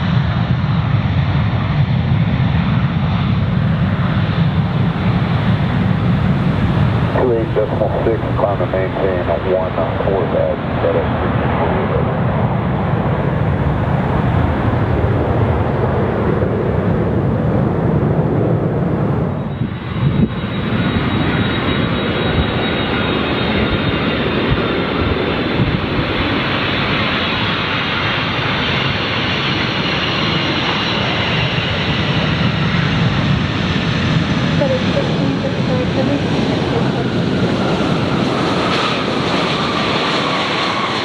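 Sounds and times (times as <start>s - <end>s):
jet engine rushing: 0.0s - 41.0s.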